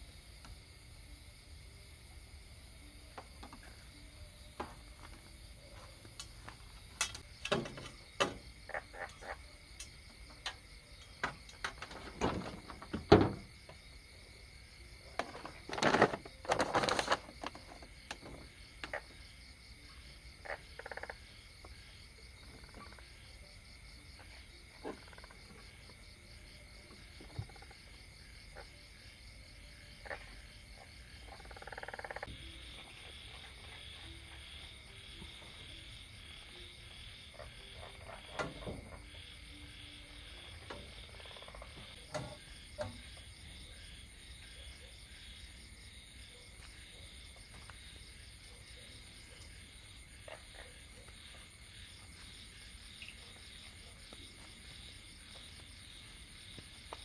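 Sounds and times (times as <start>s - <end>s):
frogs and insects chorus: 0.0s - 57.0s.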